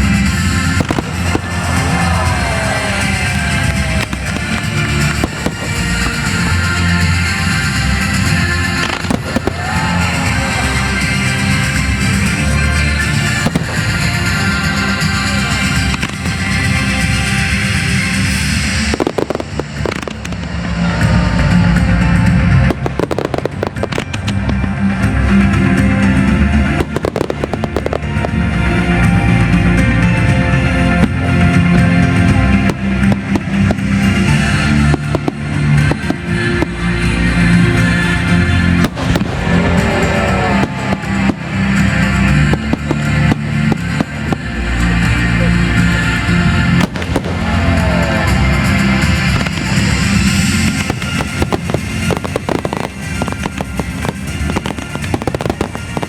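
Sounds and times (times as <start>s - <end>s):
fireworks cracking: 0.0s - 30.3s, 30.9s - 56.0s
loud music: 0.0s - 56.0s.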